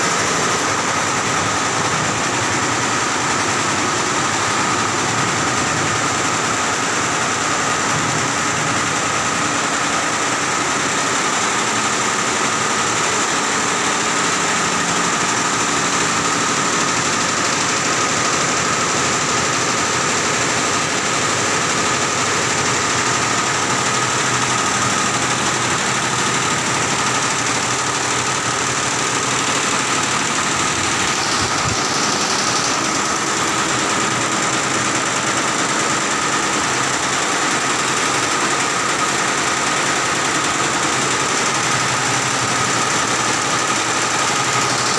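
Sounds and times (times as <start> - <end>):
embroidery machine clattering: 0.0 - 44.9.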